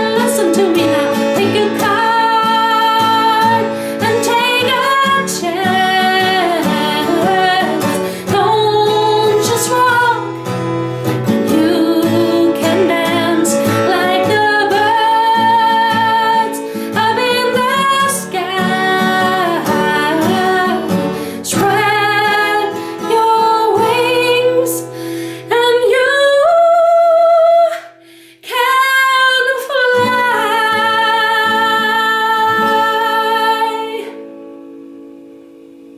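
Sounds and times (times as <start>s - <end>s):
woman singing: 0.0s - 10.5s, 11.1s - 34.3s
strummed acoustic guitar: 0.0s - 35.9s.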